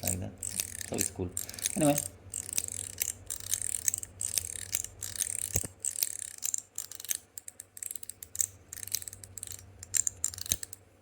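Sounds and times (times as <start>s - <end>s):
metal fidget clicking and snapping: 0.0s - 10.8s.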